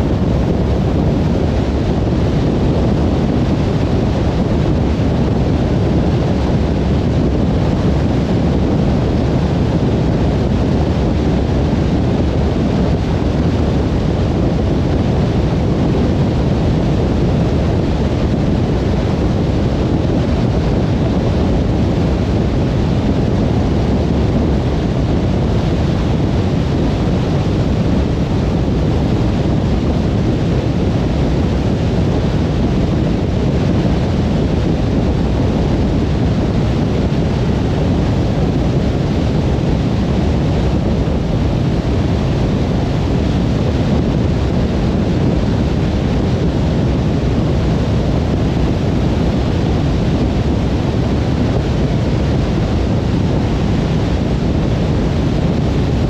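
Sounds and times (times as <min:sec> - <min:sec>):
car tyre and wind road noise: 0:00.0 - 0:56.0.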